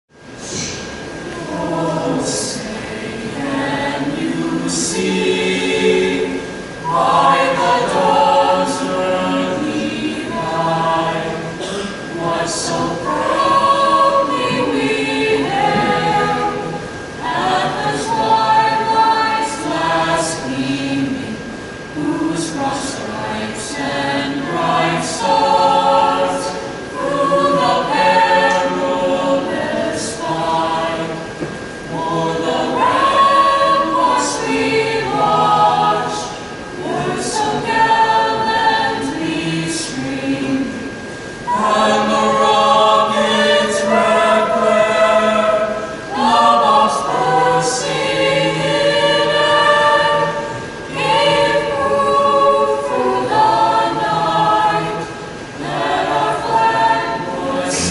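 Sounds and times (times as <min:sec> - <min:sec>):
choir singing: 0:00.4 - 0:57.9.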